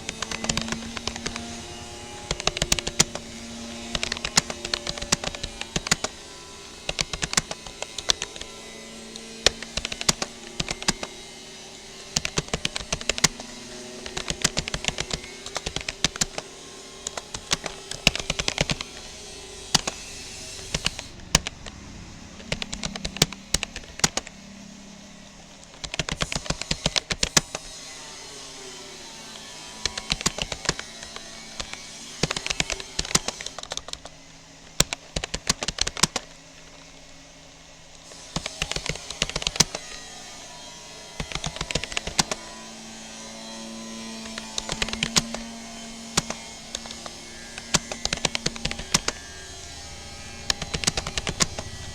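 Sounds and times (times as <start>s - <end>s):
typing on computer keyboard: 0.0s - 11.2s, 11.8s - 24.3s, 25.7s - 27.7s, 29.8s - 34.1s, 34.7s - 36.3s, 38.3s - 40.0s, 41.1s - 42.5s, 43.6s - 51.9s.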